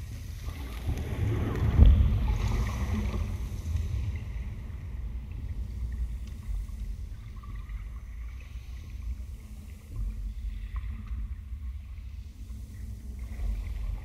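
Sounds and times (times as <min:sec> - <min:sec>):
deep fluctuating electronic rumble: 0:00.0 - 0:14.0
soft hiss: 0:00.0 - 0:14.0.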